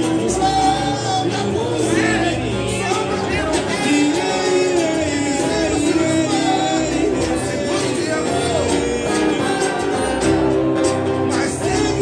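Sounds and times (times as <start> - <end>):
acoustic guitar strumming: 0.0 - 12.0
person singing: 0.0 - 12.0.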